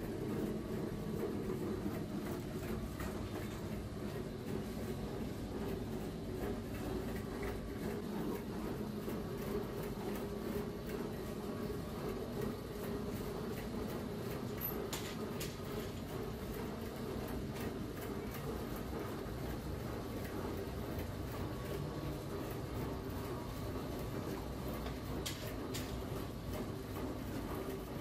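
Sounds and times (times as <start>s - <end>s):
bakery machinery humming: 0.0s - 28.0s.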